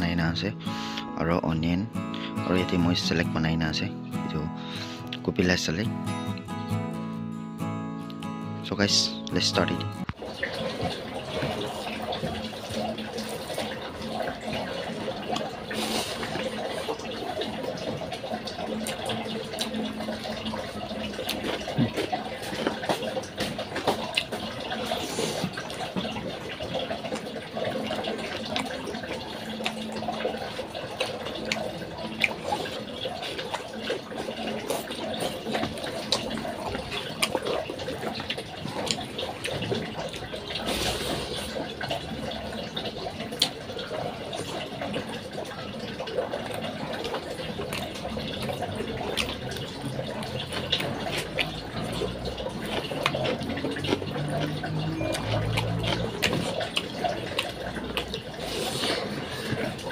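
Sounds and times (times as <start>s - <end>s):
wet chewing and lip-smacking: 10.0s - 42.0s, 42.8s - 59.9s.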